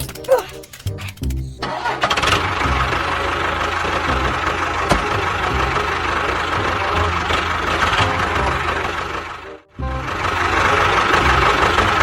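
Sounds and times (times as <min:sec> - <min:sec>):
engine idling: 0:01.6 - 0:12.0.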